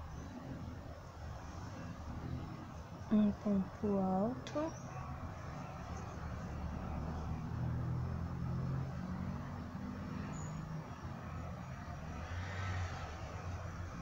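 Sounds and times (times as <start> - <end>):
traffic engine rumble: 0.0 - 14.0.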